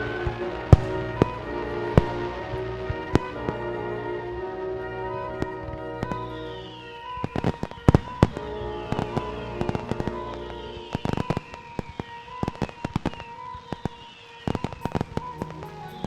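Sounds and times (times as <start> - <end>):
falling high tone: 0.0 - 16.0
fireworks bangs and crackles: 0.0 - 16.0
music with held notes: 0.0 - 16.0.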